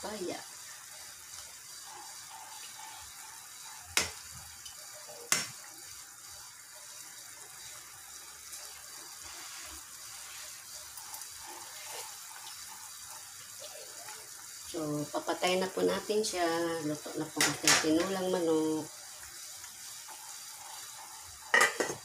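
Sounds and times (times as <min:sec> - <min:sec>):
pot simmering hiss: 0:00.0 - 0:22.0.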